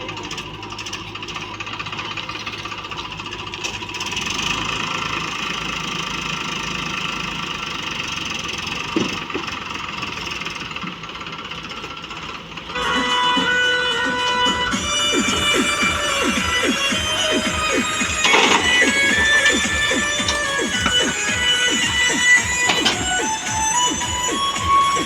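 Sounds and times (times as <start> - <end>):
heavy machinery diesel engine: 0.0 - 25.0.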